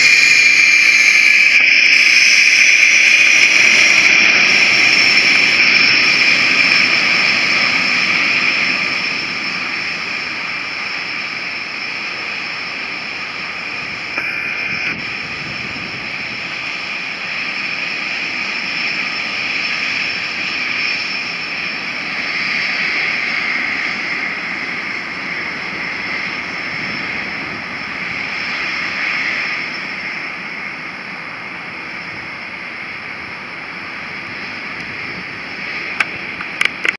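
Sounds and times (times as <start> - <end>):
jet engine whine: 0.0 - 36.9.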